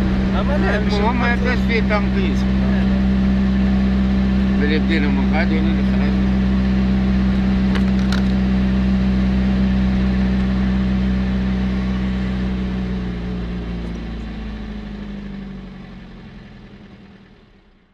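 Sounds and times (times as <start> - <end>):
road noise: 0.0 - 17.9
vehicle engine running: 0.0 - 17.9.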